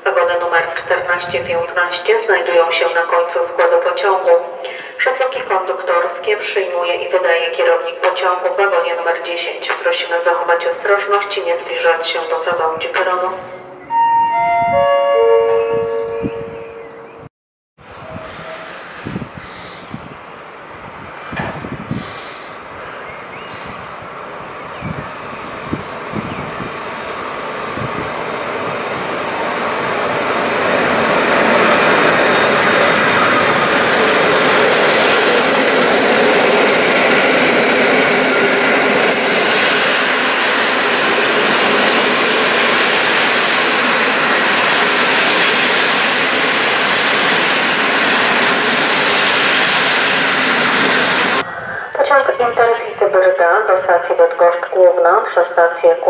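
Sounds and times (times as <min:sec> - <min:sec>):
train rumbling past: 0:05.9 - 0:53.1.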